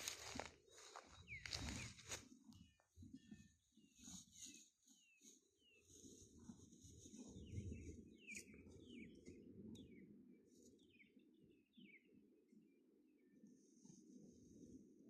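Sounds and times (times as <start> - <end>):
birds chirping faintly: 0.0 - 13.9.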